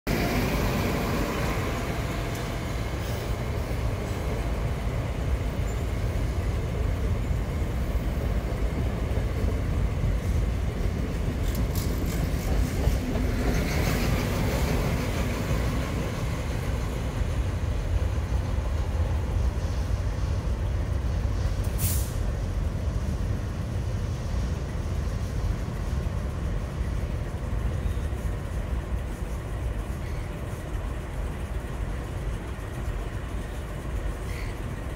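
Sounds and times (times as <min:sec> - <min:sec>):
train rumbling on rails: 0:00.0 - 0:34.9.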